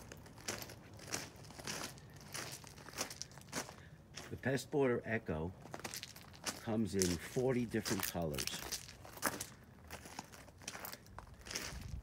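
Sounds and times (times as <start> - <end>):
footsteps crunching on rock: 0.0 - 4.5, 5.6 - 12.0.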